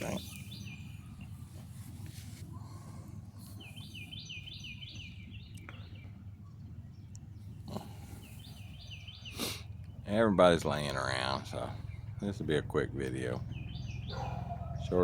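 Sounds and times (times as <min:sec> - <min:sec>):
small bird singing: 0:00.0 - 0:01.9, 0:02.6 - 0:15.0.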